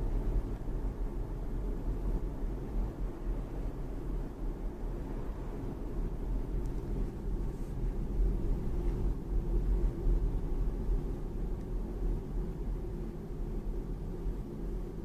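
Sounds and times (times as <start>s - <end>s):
road and tyre rumble in car: 0.0s - 15.0s.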